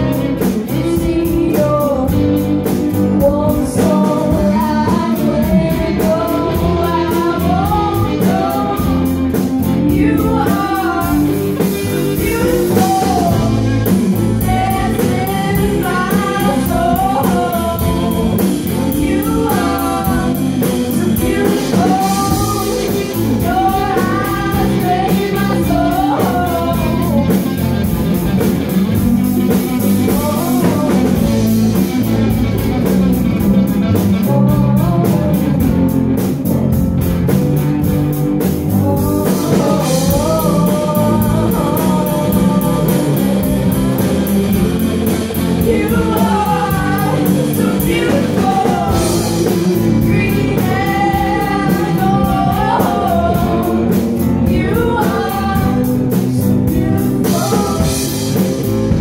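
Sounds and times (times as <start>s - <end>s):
woman singing: 0.0s - 36.8s, 37.8s - 59.0s
folk band playing: 0.0s - 59.0s.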